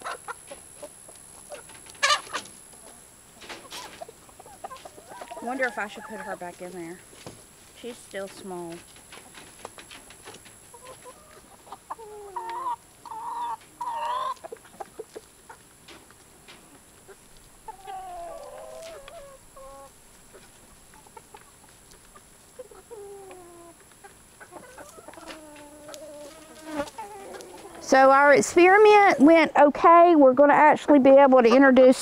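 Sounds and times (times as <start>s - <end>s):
chickens clucking: 0.0s - 29.5s.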